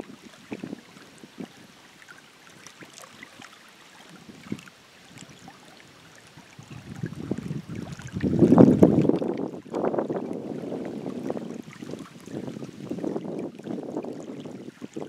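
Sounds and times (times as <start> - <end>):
wind buffeting microphone: 0.0 - 1.8, 4.1 - 15.0.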